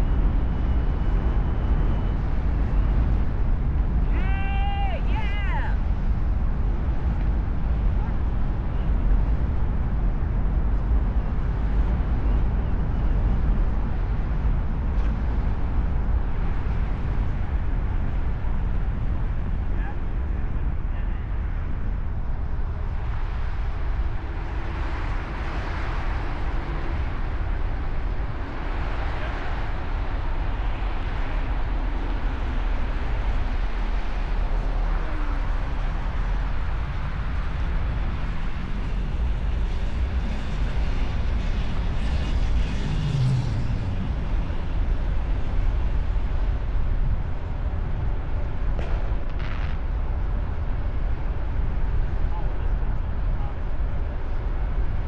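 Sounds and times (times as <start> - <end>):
vehicle traffic rumble: 0.0 - 55.0.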